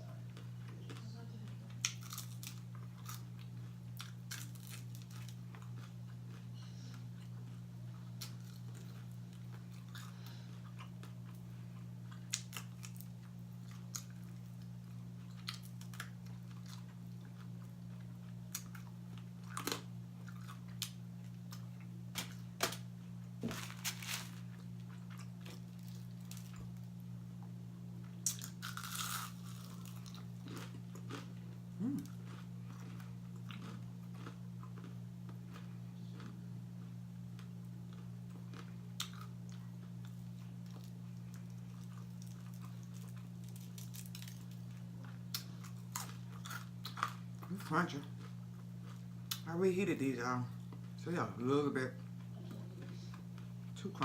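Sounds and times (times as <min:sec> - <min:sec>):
chewing crispy chicken: 0:00.2 - 0:49.8.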